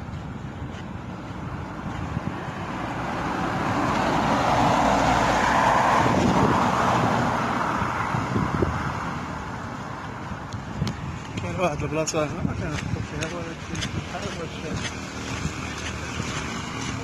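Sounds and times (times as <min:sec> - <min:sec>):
vehicle passing close by: 0:01.0 - 0:17.0.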